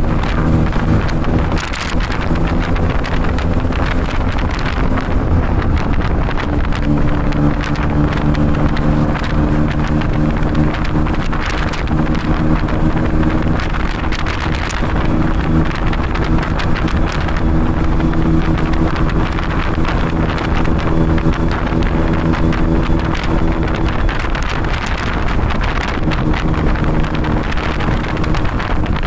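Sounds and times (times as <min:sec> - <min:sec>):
three-wheeler engine running: 0:00.0 - 0:29.0
wind buffeting microphone: 0:00.0 - 0:29.0.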